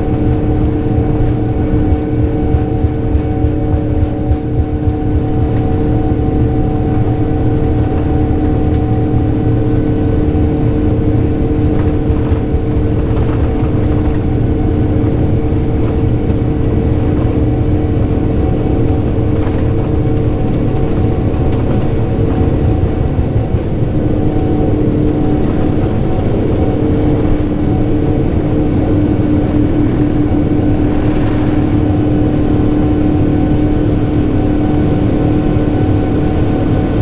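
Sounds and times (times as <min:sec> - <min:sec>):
jet engines roaring in cabin: 0:00.0 - 0:37.0.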